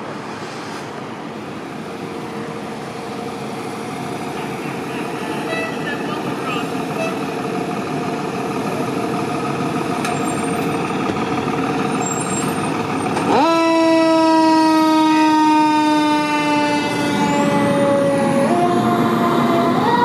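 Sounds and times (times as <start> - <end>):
fire engine diesel engine: 0.0 - 20.0.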